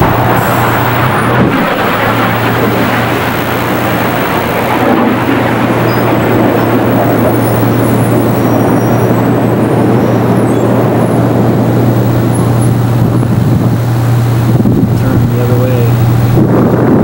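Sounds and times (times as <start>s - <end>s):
jet engines roaring overhead: 0.0s - 17.0s
low hum: 0.0s - 17.0s.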